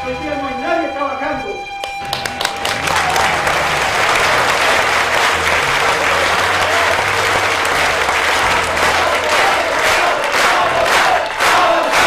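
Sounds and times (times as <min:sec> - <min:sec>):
crowd applauding: 0:01.8 - 0:12.0.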